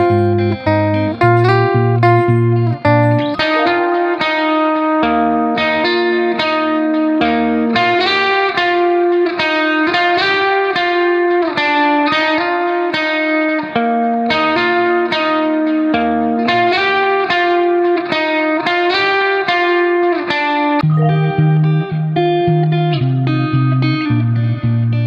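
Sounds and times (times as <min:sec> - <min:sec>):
plucked guitar melody: 0:00.0 - 0:25.0.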